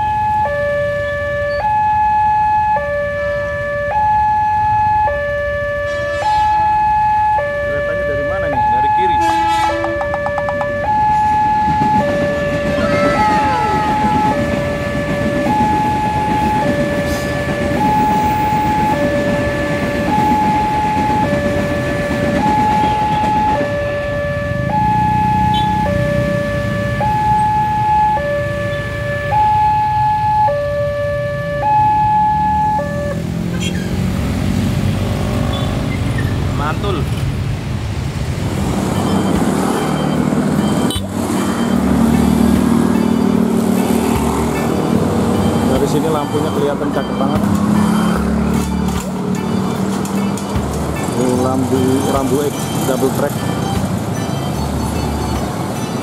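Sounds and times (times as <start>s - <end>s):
two-tone crossing alarm: 0.0s - 33.2s, 38.8s - 56.0s
road traffic: 0.0s - 56.0s
electric train passing: 8.2s - 30.5s, 31.2s - 56.0s.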